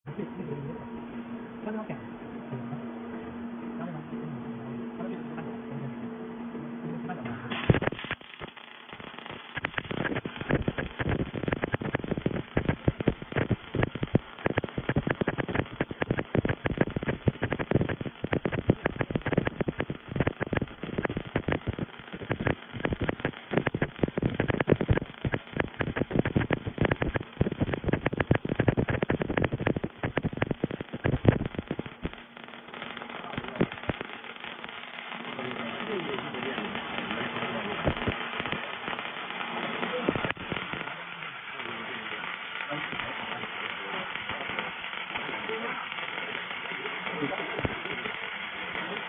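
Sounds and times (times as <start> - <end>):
welding arc crackling: 7.5 - 49.0.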